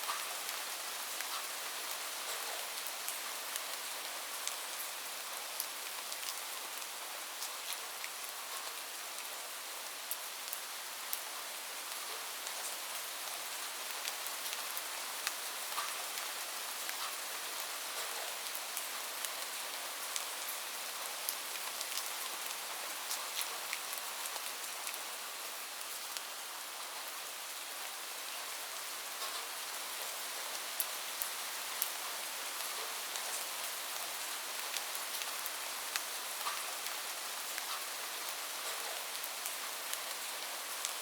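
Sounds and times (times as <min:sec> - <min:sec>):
rain hiss: 0:00.0 - 0:41.0.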